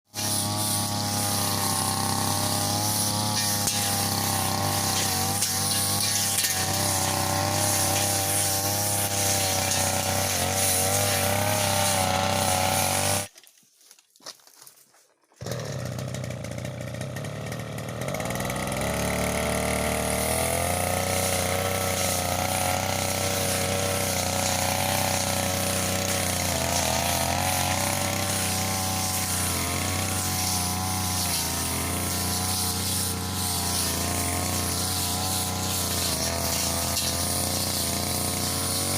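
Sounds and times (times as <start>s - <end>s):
brush cutter engine revving: 0.1s - 13.4s, 15.4s - 38.9s.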